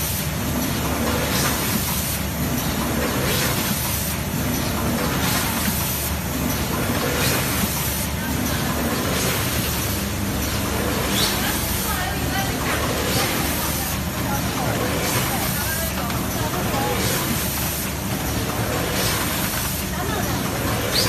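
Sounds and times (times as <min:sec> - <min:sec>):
machine hissing: 0:00.0 - 0:21.0
packing machine clatter and hum: 0:00.0 - 0:21.0.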